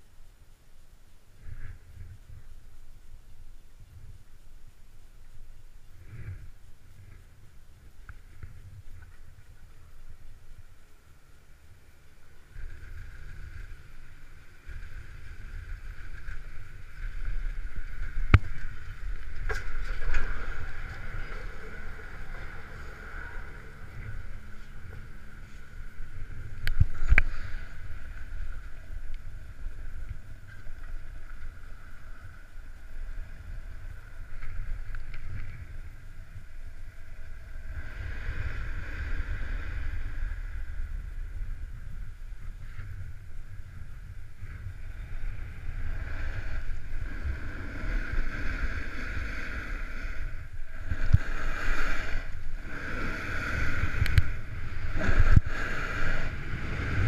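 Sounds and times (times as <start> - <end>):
wind rumbling on camera: 0.0 - 57.0.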